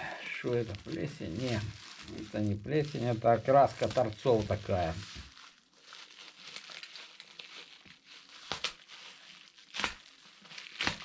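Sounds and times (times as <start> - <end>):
paper and plastic crinkling: 0.0 - 11.0.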